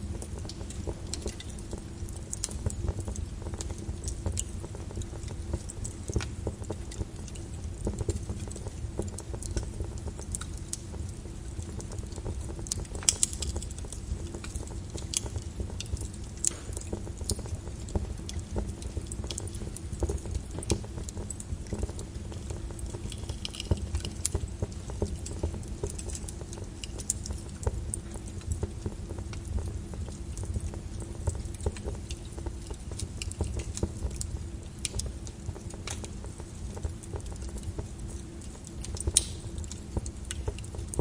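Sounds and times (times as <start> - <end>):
lava crackling and clinking: 0.0 - 41.0.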